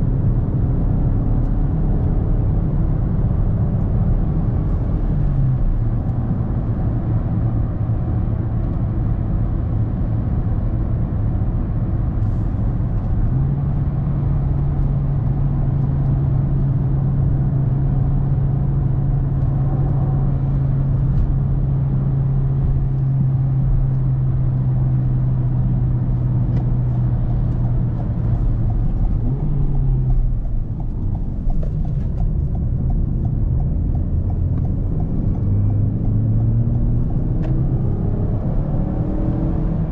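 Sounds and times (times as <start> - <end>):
car engine droning: 0.0 - 39.9
tyre and road noise: 0.0 - 39.9.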